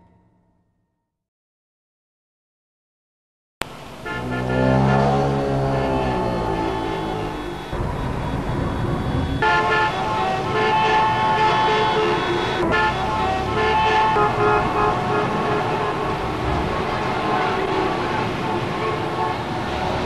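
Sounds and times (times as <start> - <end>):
traffic rumble: 3.6 - 20.0
vehicle horns sounding: 3.7 - 20.0.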